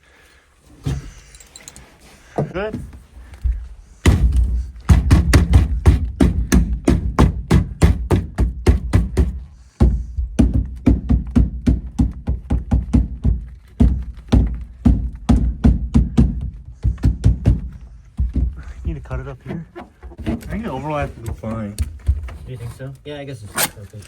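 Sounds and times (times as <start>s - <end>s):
hard thuds: 2.2s - 22.7s.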